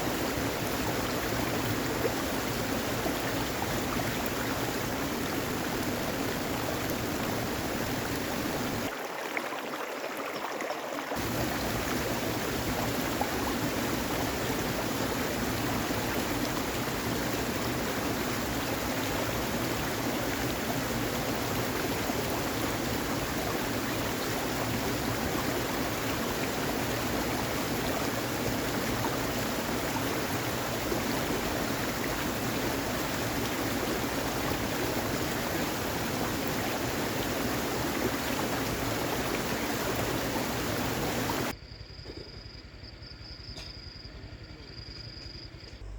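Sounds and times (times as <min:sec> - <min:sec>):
rushing water: 0:00.0 - 0:41.5.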